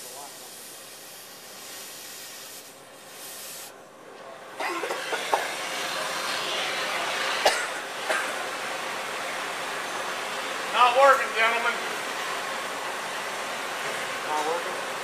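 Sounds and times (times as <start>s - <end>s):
cutting torch flame hissing: 0.0s - 15.0s.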